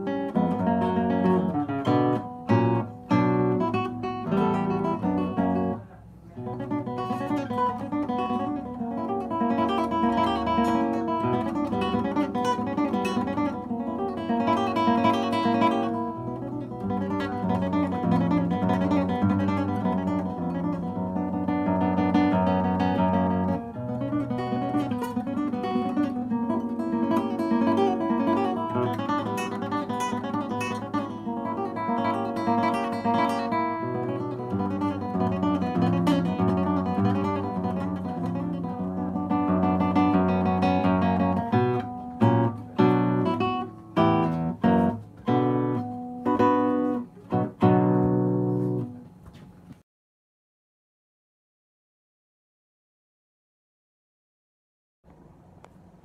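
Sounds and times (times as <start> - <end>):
classical guitar fingerstyle: 0.0 - 49.8.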